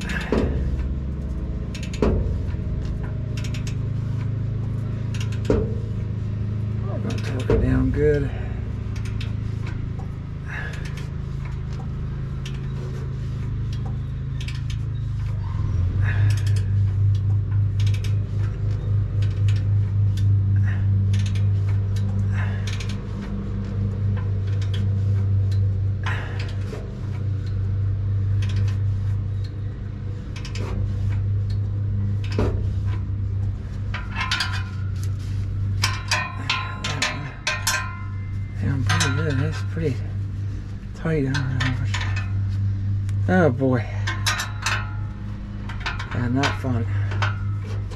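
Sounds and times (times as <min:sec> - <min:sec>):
ratchet and wrench clicking: 0:00.0 - 0:15.4, 0:16.0 - 0:47.9
steady low hum: 0:00.0 - 0:47.9.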